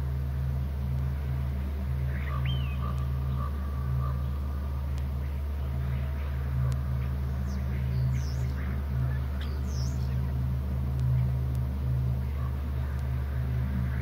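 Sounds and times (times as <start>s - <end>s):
steady low hum: 0.0s - 14.0s
faint bird calls: 1.8s - 14.0s.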